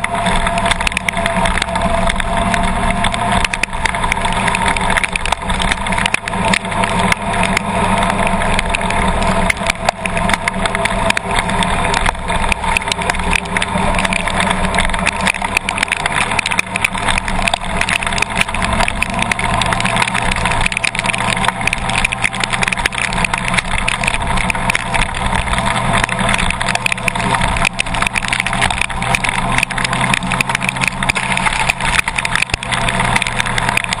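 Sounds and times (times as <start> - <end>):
heavy rain on car body: 0.0 - 34.0.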